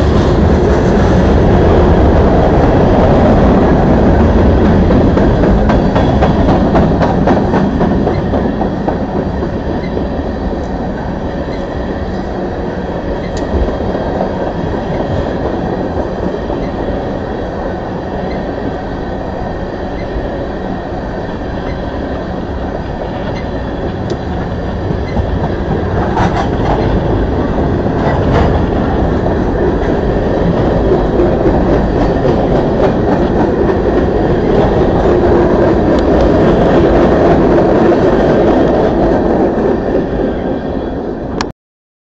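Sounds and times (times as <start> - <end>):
train wheels rumbling on track: 0.0 - 41.5.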